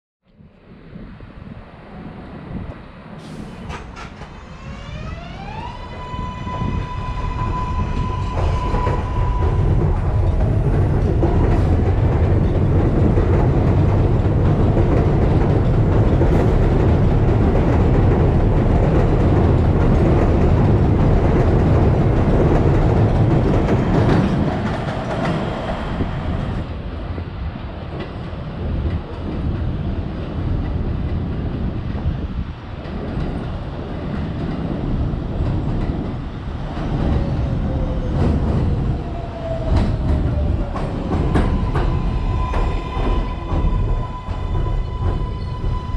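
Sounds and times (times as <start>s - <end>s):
train wheels rumbling and clattering: 1.0s - 45.9s.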